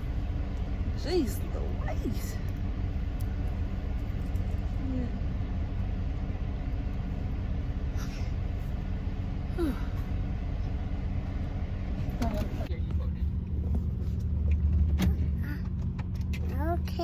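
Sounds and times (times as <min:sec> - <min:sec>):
car road rumble and engine hum: 0:00.0 - 0:17.0.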